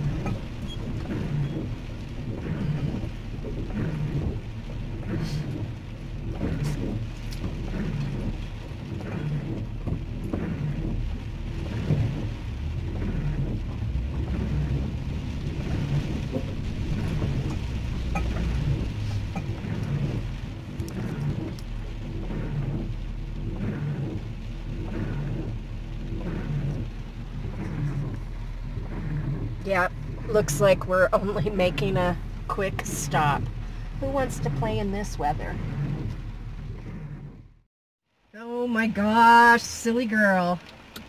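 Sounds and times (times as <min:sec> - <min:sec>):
van road rumble inside cabin: 0:00.0 - 0:37.7.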